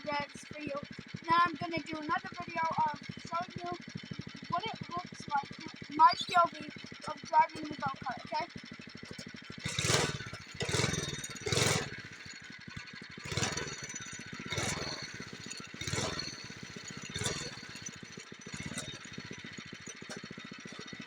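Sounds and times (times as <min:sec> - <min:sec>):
go-kart engine idling and revving: 0:00.0 - 0:21.0.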